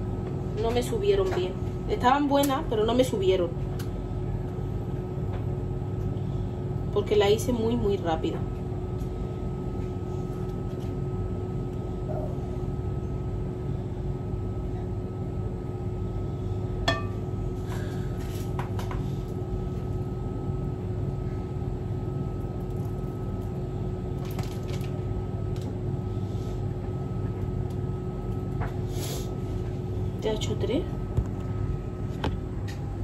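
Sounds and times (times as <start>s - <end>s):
mechanical hum with faint whine: 0.0s - 33.0s.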